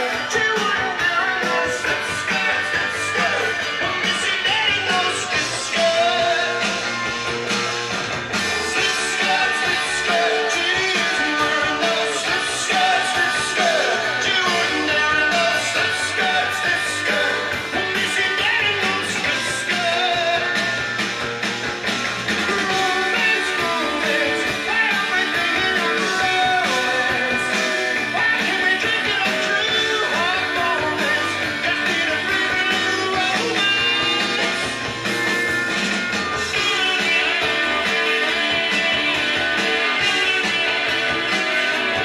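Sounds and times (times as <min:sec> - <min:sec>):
rock music with guitar: 0:00.0 - 0:42.0.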